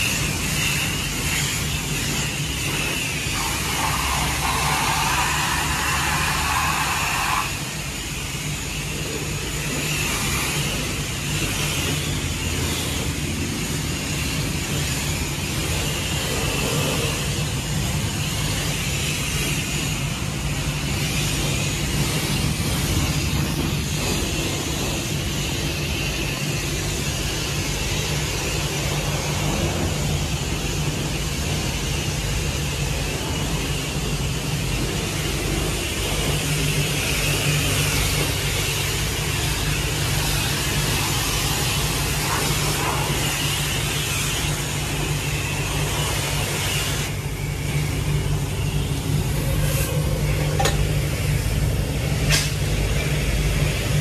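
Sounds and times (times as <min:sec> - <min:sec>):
pressure washer spraying water: 0:00.0 - 0:54.0
pump humming: 0:00.0 - 0:54.0.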